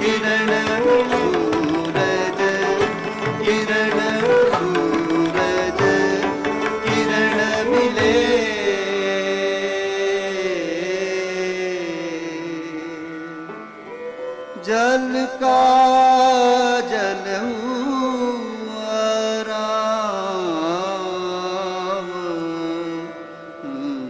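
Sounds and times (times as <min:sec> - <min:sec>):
harmonium drone: 0:00.0 - 0:19.8, 0:20.4 - 0:24.0
person singing ornamented melody: 0:00.0 - 0:24.0.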